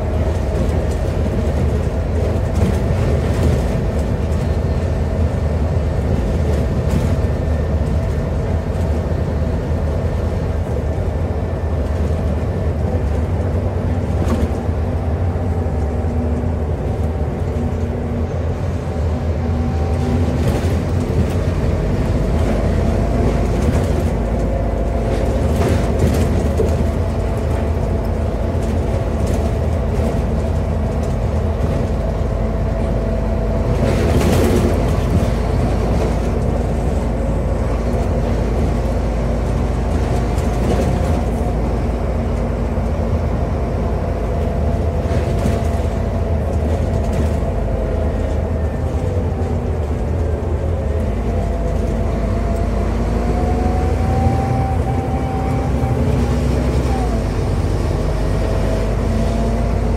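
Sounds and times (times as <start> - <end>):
bus body clicks and rattles: 0.0 - 53.1
bus engine and road rumble: 0.0 - 59.9.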